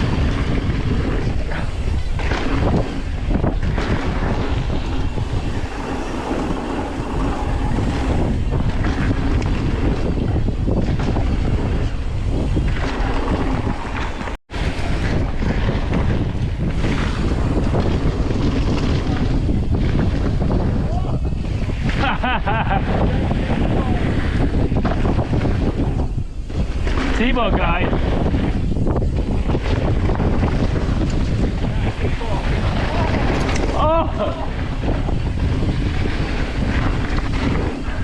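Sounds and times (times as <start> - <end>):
bike tyres rumbling on dirt: 0.0 - 38.0
wind buffeting microphone: 0.0 - 38.0.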